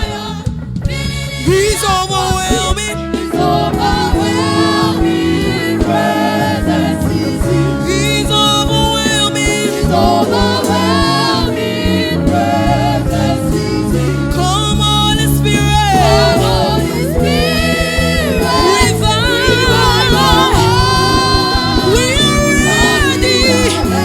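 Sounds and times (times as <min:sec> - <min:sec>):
bass: 0:00.0 - 0:24.0
gospel choir singing: 0:00.0 - 0:24.0
keyboard: 0:00.0 - 0:24.0.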